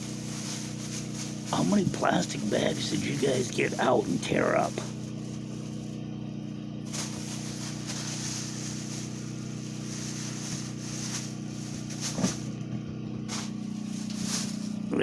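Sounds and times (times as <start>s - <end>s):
household appliance humming: 0.0s - 15.0s.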